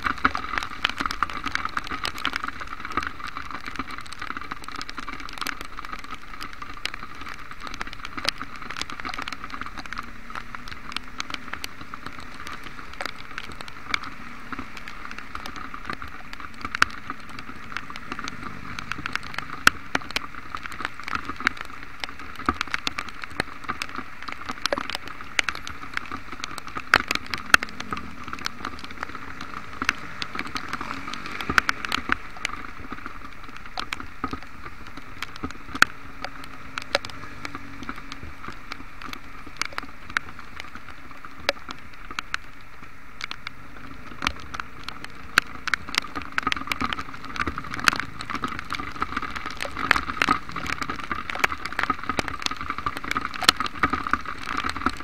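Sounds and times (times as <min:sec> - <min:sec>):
rain hissing on wet road: 0:00.0 - 0:55.0
raindrops ticking on camera: 0:00.0 - 0:55.0.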